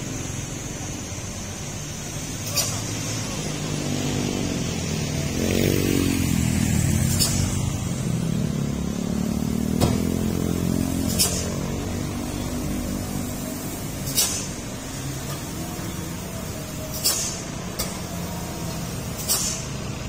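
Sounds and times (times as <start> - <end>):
motorcycle engines passing: 0.0 - 20.0
truck diesel engine under load: 0.0 - 20.0.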